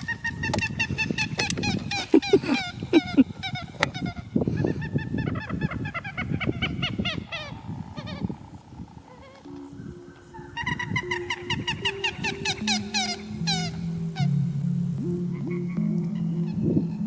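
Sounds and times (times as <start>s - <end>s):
waterfowl honking: 0.0s - 8.4s, 9.0s - 17.0s.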